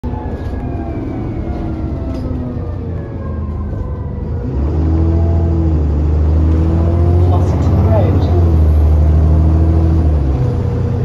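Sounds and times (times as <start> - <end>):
bus engine accelerating: 0.0 - 11.0.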